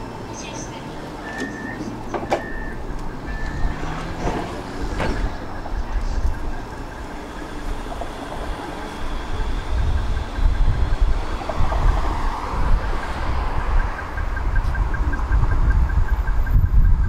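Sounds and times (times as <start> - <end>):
tram motor whine rising: 0.0 - 17.0
tram running gear rumble: 0.0 - 17.0.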